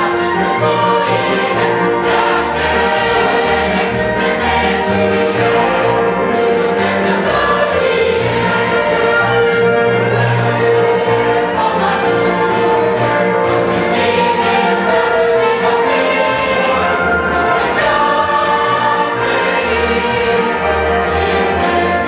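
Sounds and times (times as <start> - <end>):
choir singing in harmony: 0.0 - 22.0.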